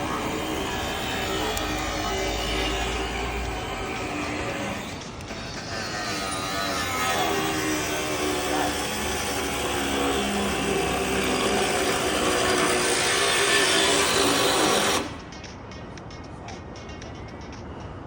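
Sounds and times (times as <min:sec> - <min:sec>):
power tool grinding metal: 0:00.0 - 0:15.2.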